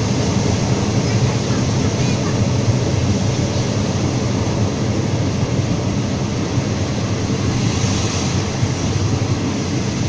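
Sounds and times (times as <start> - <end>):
train rumbling on track: 0.0 - 10.0.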